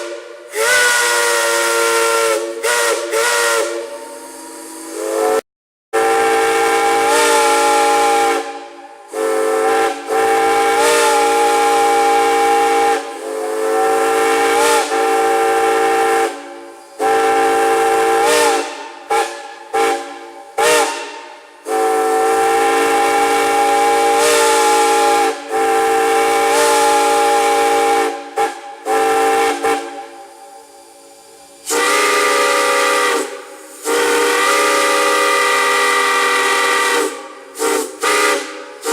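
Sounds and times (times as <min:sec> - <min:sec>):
hissing steam: 0:00.0 - 0:05.4, 0:06.0 - 0:38.9
steam whistle chord: 0:00.0 - 0:05.4, 0:06.0 - 0:38.9.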